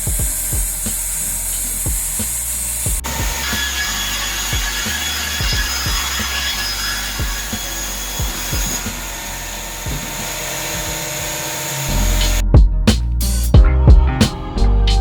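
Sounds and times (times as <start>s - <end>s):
band saw cutting wood: 0.0s - 12.4s
background music bass beat: 0.0s - 15.0s.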